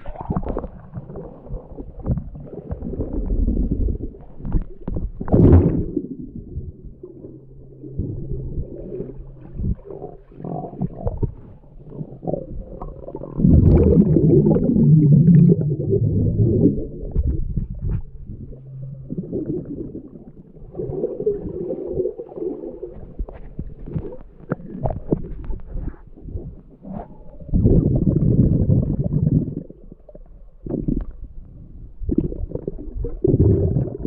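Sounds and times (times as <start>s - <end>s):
bubbly bursts: 0.0s - 26.5s, 27.4s - 30.1s, 32.0s - 34.0s
underwater churning and gurgles: 0.0s - 34.0s
faint steady low hum: 0.2s - 34.0s.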